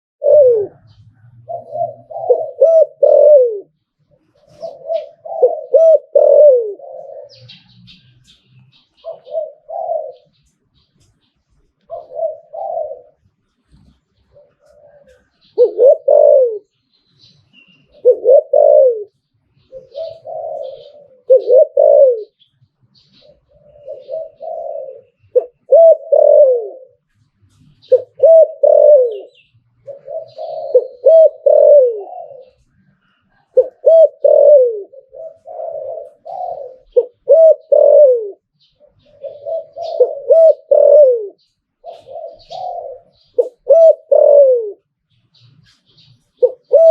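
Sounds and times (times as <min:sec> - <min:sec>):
dove cooing: 0:00.2 - 0:16.9, 0:17.6 - 0:46.9
high chirps of small birds: 0:00.2 - 0:46.9.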